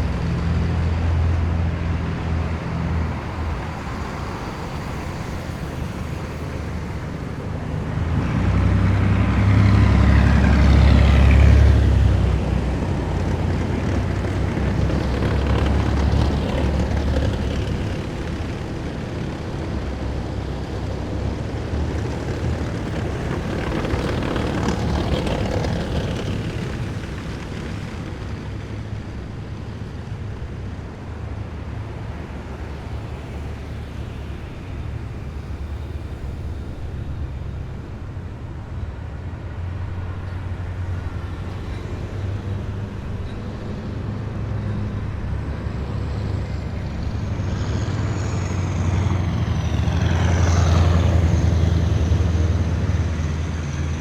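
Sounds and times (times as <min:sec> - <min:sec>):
heavy vehicle engine rumble: 0:00.0 - 0:54.0.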